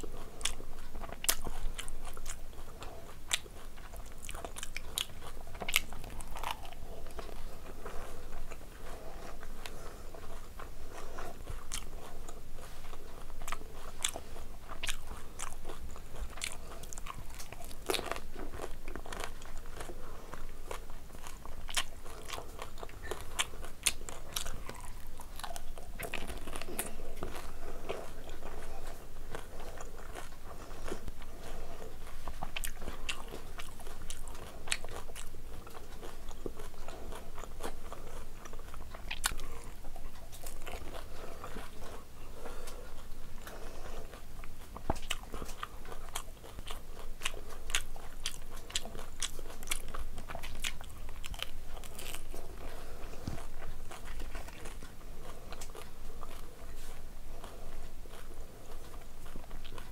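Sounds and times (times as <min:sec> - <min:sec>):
chewing crisp fried shells: 0:00.0 - 0:59.9.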